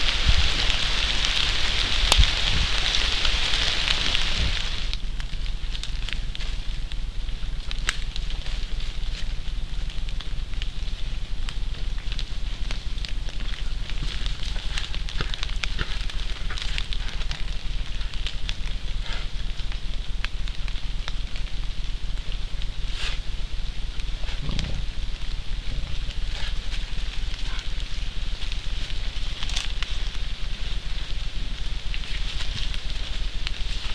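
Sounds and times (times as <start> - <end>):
rain dripping and crackling: 0.0 - 33.9
steady low hum: 0.0 - 33.9.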